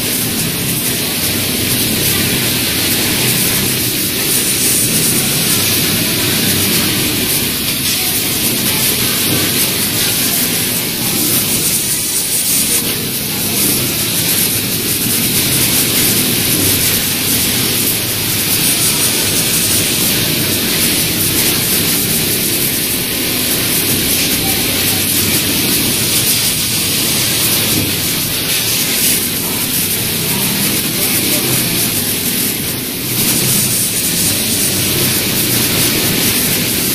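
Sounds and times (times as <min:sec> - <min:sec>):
loud constant hiss: 0:00.0 - 0:36.9
sewing machine running: 0:00.0 - 0:36.9.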